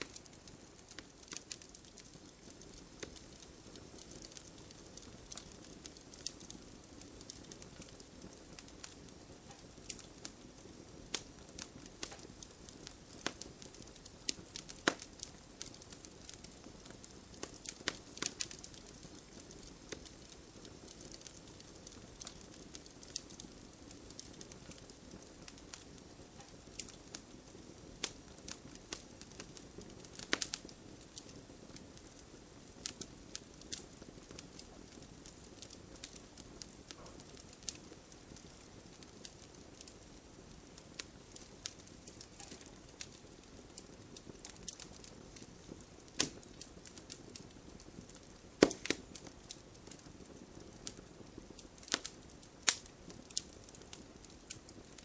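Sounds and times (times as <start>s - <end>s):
bonfire crackling and popping: 0.0s - 55.0s
light rain hiss: 0.0s - 55.0s.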